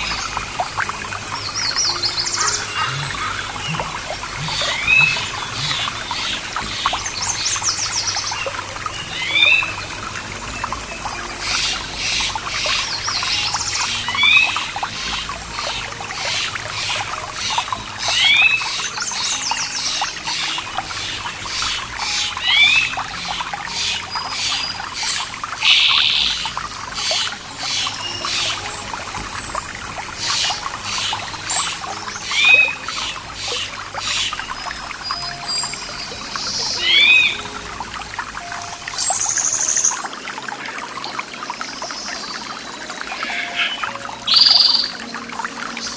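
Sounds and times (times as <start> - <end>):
songbird chirp call: 0.0 - 40.2
water trickling over rocks: 0.0 - 45.9.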